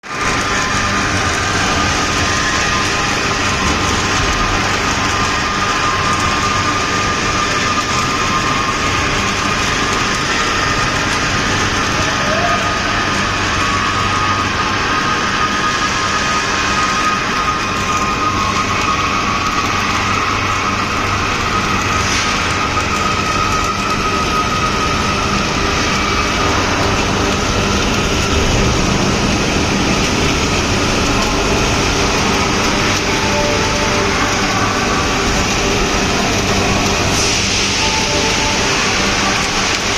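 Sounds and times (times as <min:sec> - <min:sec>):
pipe mill machinery drone: 0:00.0 - 0:39.9.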